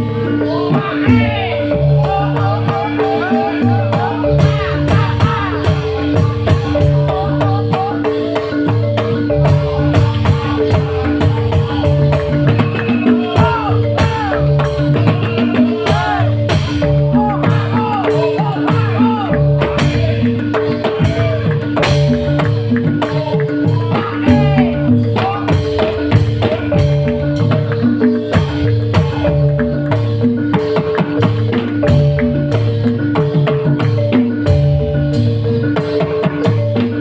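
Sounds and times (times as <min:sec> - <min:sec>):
drum and percussion rhythm: 0:00.0 - 0:37.0.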